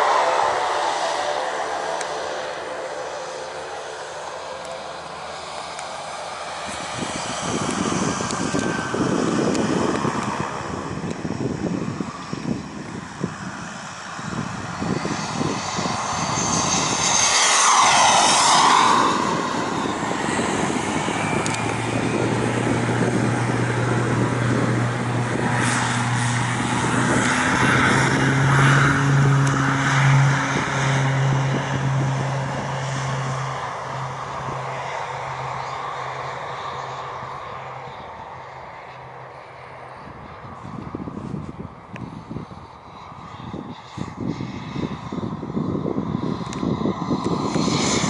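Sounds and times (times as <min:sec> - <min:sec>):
model jet turbine whining: 0:00.0 - 0:48.0.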